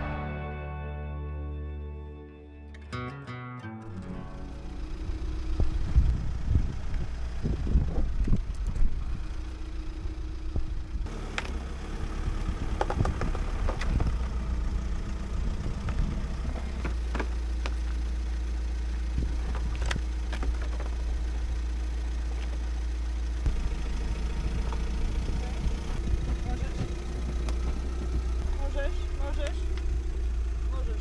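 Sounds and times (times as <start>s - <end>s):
engine rumbling: 4.0s - 31.0s
constant hum: 4.1s - 31.0s.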